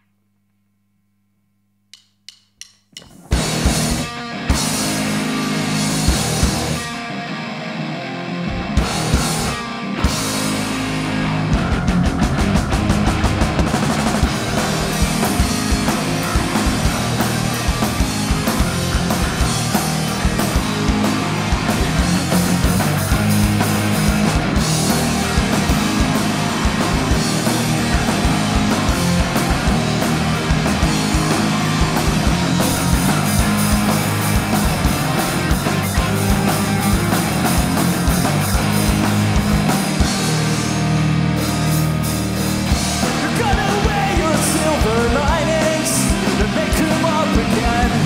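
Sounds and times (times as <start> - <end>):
drum kit: 1.9 - 7.2, 8.5 - 48.0
rock band playing live: 3.0 - 48.0
electric guitar: 3.1 - 48.0.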